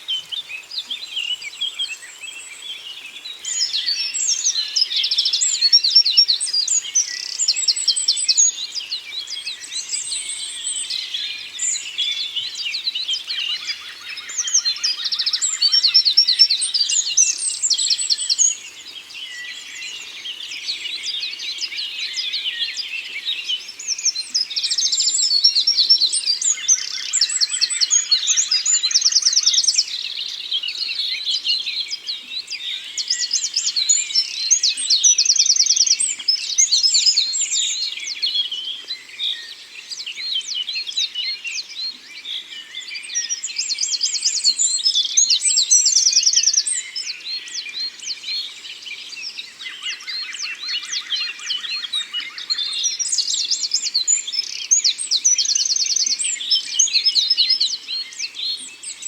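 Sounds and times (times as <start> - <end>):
birdsong chorus: 0.0 - 59.0.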